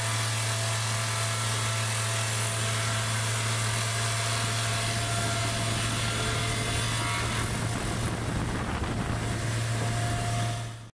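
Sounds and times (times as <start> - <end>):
saw hissing through wood: 0.0 - 10.8
diesel engine humming: 0.7 - 10.9.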